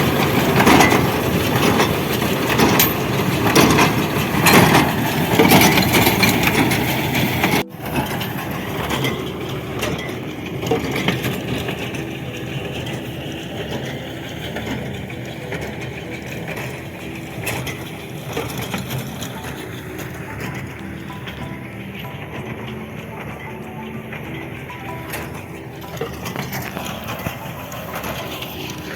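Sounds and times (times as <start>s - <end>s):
hay baler crackling and crunching: 0.0s - 28.9s
machinery clicks: 0.0s - 28.9s
machinery running hum: 0.0s - 28.9s.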